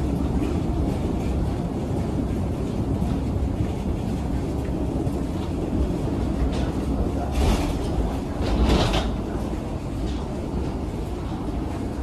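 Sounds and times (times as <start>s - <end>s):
low rumble inside vehicle: 0.0s - 12.0s.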